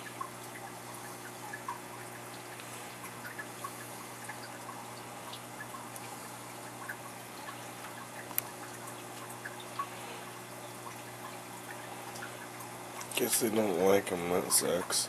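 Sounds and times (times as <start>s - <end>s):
low steady hum: 0.0s - 15.0s
water trickling and dripping: 0.0s - 15.0s.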